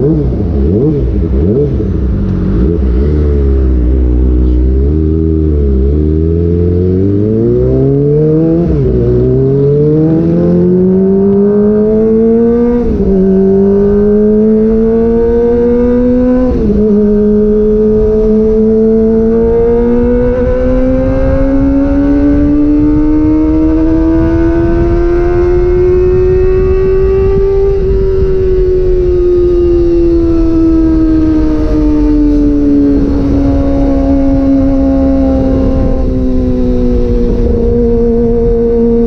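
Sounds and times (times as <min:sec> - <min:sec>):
motorcycle engine accelerating: 0:00.0 - 0:39.0
wind noise: 0:00.0 - 0:39.0.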